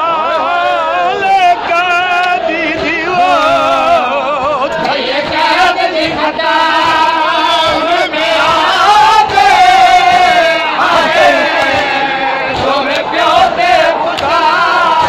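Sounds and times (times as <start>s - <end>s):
men singing a lament: 0.0s - 15.0s.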